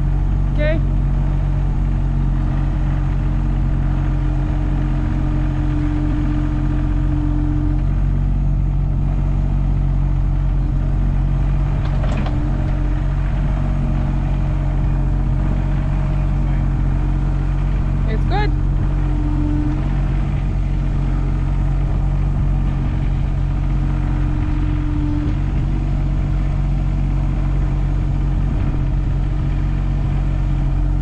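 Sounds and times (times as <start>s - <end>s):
farm machine engine running: 0.0s - 31.0s.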